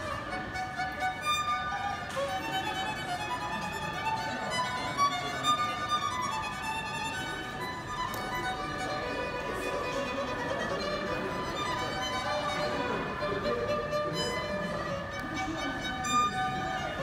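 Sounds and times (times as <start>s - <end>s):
solo violin melody: 0.0s - 17.0s.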